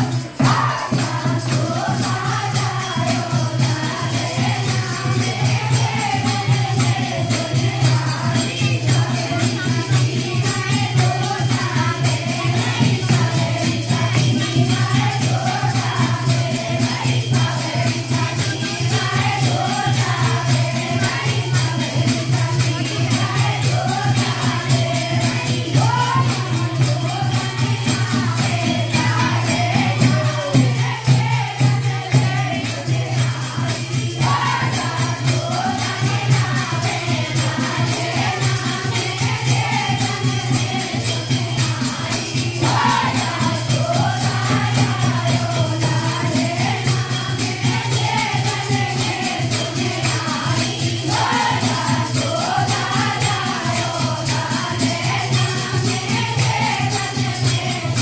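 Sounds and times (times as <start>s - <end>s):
jingling tambourine percussion: 0.0s - 58.0s.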